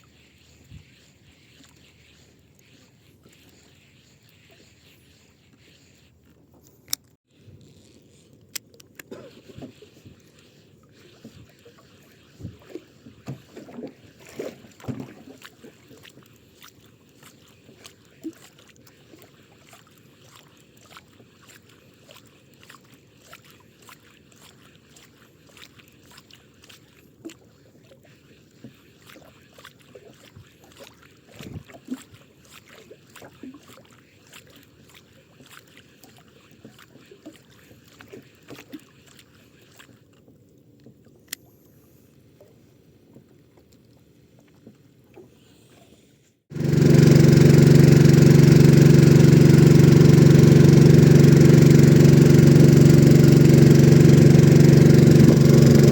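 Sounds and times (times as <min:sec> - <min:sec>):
water lapping against hull: 0:00.0 - 0:55.9.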